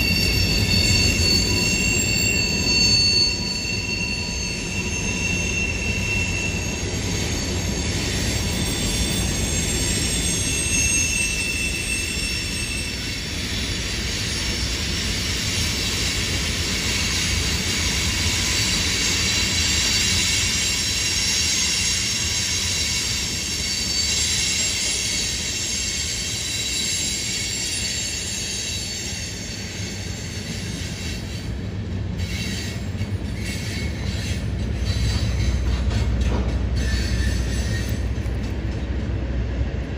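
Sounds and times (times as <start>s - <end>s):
train rolling rumble: 0.0s - 39.9s
train wheels squealing: 0.0s - 39.9s.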